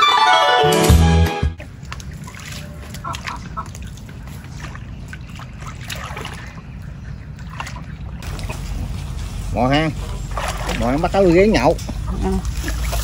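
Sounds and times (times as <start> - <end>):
water sloshing and trickling: 1.6 - 13.0.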